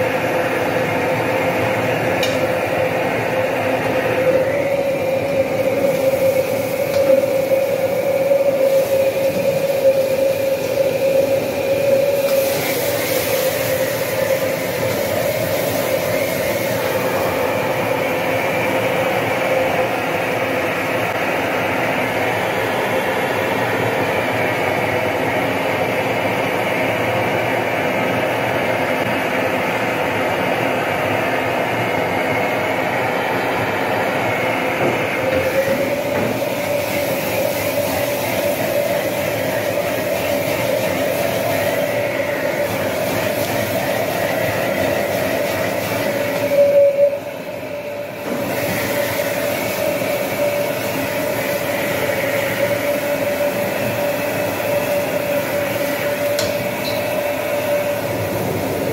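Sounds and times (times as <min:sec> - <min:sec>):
gas burner rushing: 0:00.0 - 0:58.9.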